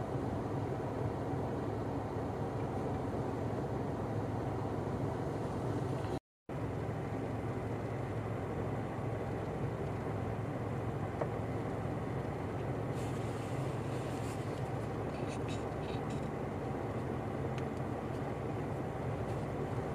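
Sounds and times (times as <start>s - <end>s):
motor vehicles rumbling: 0.0s - 19.9s.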